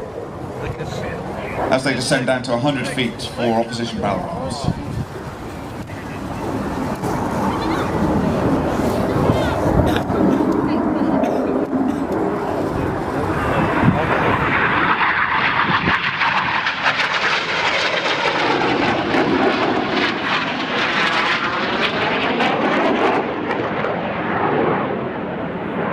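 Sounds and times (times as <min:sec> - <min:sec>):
jets flying past: 0:00.0 - 0:25.9.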